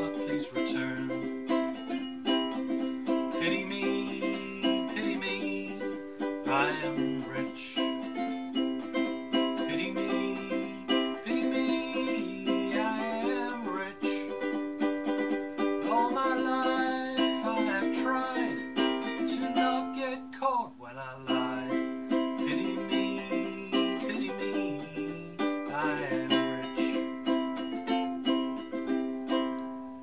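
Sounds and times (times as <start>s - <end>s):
wordless singing: 0.0s - 28.2s
ukulele strumming: 0.0s - 30.0s.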